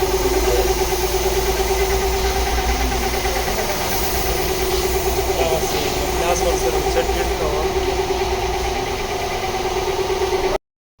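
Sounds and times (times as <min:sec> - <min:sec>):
motor running with hum: 0:00.0 - 0:10.6.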